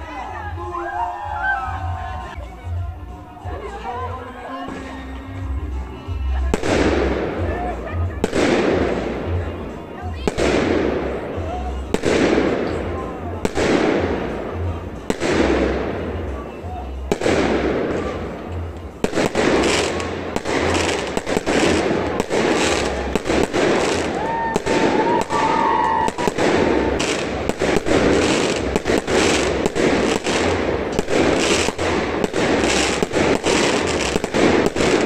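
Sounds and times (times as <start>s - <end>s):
fireworks bangs and crackles: 4.6s - 35.0s.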